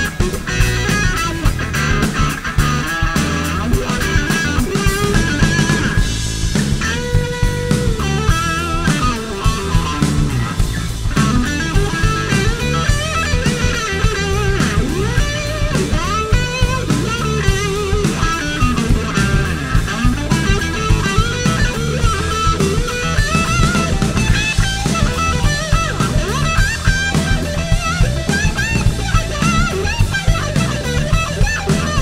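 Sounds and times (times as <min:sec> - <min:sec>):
drum kit steady beat: 0:00.0 - 0:32.0
electric guitar solo: 0:00.0 - 0:32.0.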